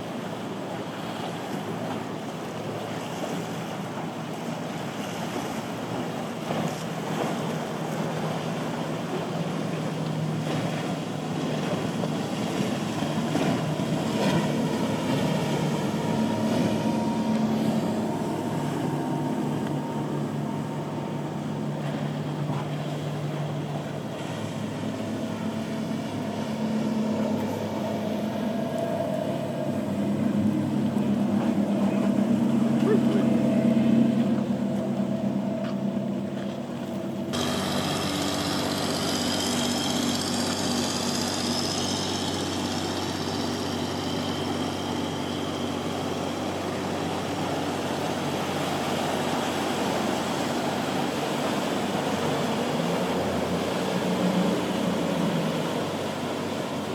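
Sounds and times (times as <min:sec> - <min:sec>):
motorboat engines droning: 0:00.0 - 0:56.9
waves washing: 0:00.0 - 0:56.9.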